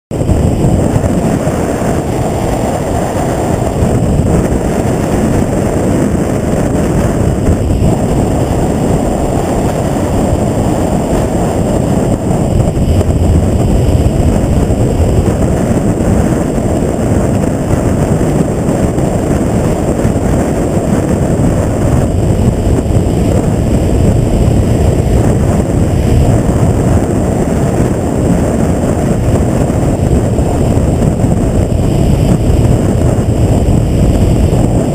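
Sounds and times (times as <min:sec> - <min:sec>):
motorcycle running: 0:00.1 - 0:34.9
wind buffeting microphone: 0:00.1 - 0:34.9.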